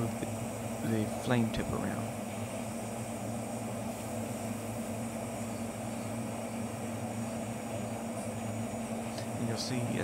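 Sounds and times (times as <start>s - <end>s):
gas torch hissing: 0.0s - 10.0s.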